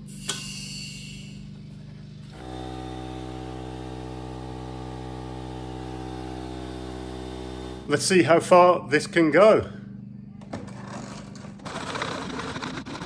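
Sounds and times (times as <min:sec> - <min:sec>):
air compressor humming: 0:00.0 - 0:13.0.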